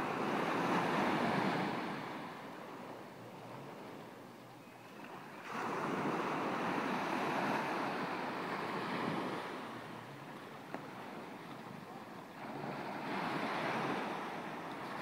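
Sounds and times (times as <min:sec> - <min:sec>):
small waves breaking on beach: 0:00.0 - 0:04.1, 0:04.7 - 0:15.0.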